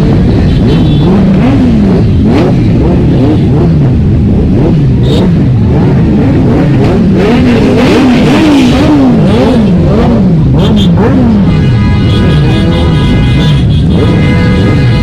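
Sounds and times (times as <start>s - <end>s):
vehicle engines revving: 0.0s - 15.0s.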